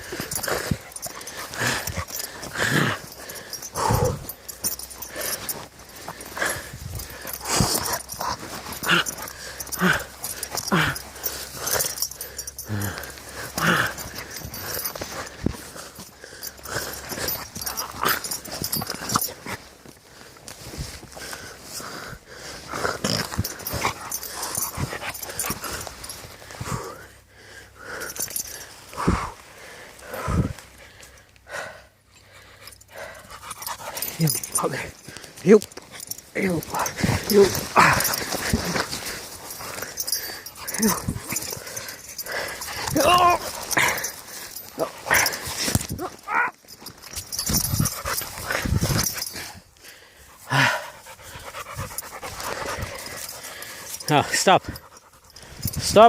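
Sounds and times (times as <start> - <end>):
puppy breathing hard: 0.0 - 56.0.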